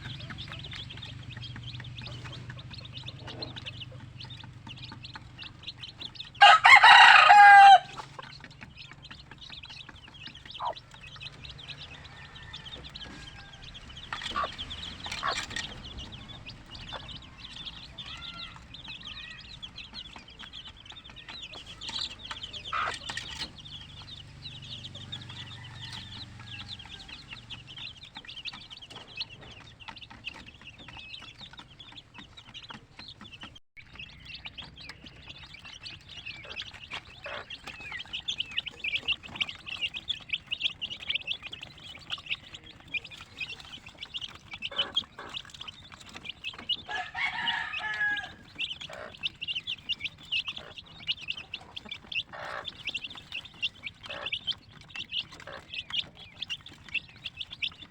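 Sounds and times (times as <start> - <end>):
chicken clucks: 0.0 - 57.9
chicks peeping: 0.0 - 57.9.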